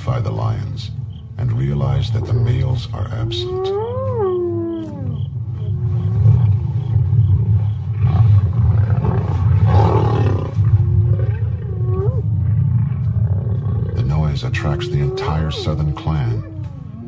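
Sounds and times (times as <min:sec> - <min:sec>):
hyenas calling: 0:01.6 - 0:17.0
lions growling and snarling: 0:01.6 - 0:17.0.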